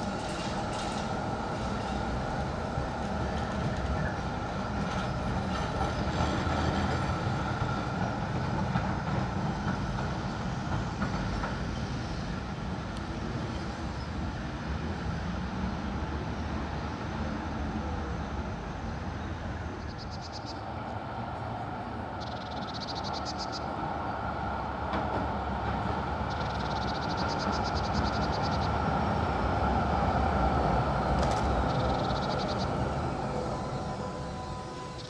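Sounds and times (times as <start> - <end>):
tram rumbling on track: 0.0 - 35.0.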